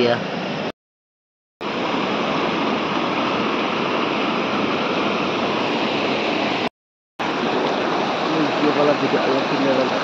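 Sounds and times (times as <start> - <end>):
river rushing over boulders: 1.6 - 10.0.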